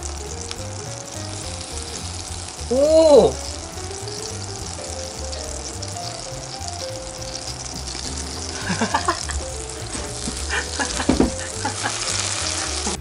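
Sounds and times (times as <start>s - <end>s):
eggs sizzling in a frying pan: 0.0s - 13.0s.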